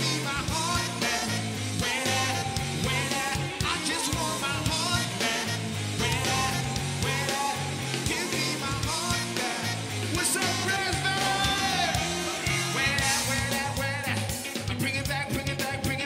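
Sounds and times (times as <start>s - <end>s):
drum kit hits: 0.0s - 14.9s
people singing: 0.0s - 16.0s
repeating bass line: 0.0s - 16.0s.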